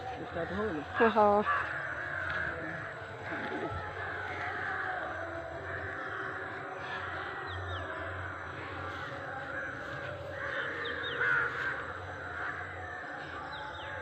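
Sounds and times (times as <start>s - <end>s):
birds chirping chorus: 0.0s - 14.0s.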